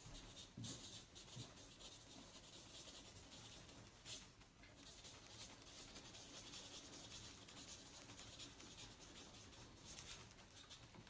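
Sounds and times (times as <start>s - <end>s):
pen scratching on paper: 0.0s - 4.2s, 4.8s - 10.9s.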